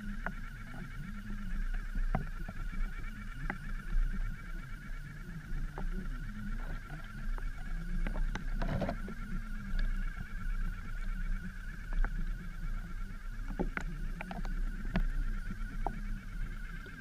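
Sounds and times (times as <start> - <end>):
small electric motor whirring underwater: 0.0 - 17.0.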